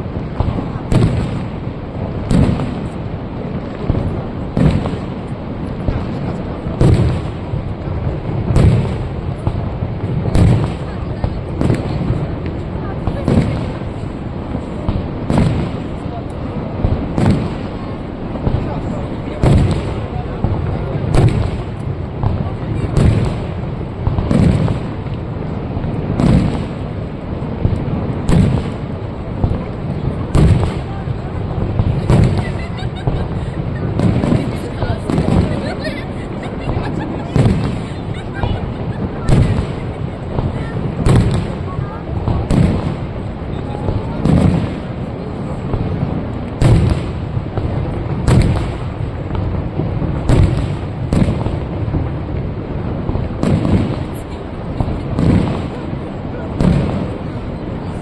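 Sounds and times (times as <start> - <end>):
fireworks booming: 0.0 - 58.0.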